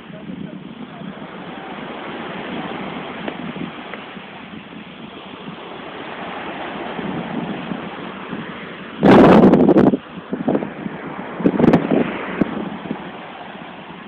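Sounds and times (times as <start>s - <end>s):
small waves washing onto sand: 0.0s - 14.0s.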